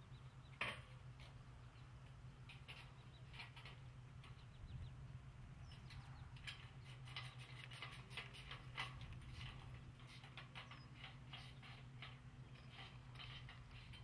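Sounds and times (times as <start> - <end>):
low steady hum: 0.0 - 14.0
soft ticks and rustles: 0.5 - 4.6, 5.4 - 14.0.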